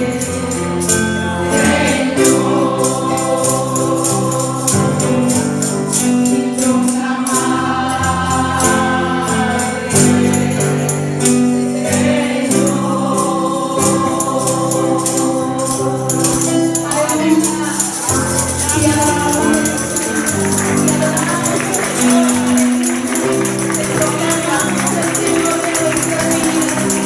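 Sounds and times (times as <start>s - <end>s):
keyboard chords: 0.0s - 27.0s
percussion beat: 0.0s - 27.0s
voices singing: 0.0s - 27.0s.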